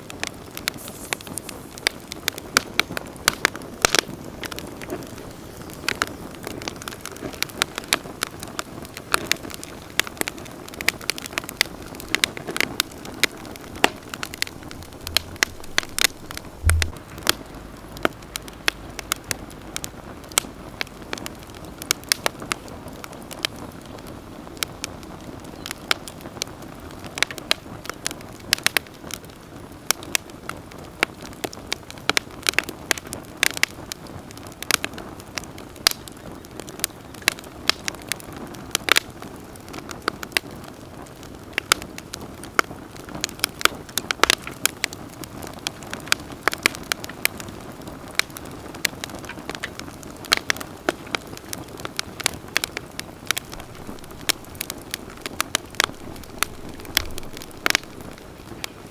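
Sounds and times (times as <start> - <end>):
campfire flames rushing: 0.0 - 58.9
fire crackles and pops: 0.0 - 58.9.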